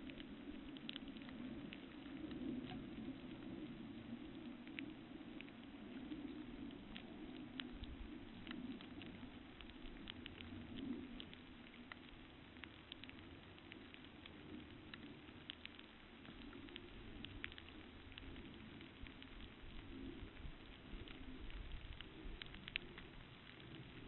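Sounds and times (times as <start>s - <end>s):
raindrop ticks: 0.0s - 24.0s
steady low hiss: 0.0s - 24.0s.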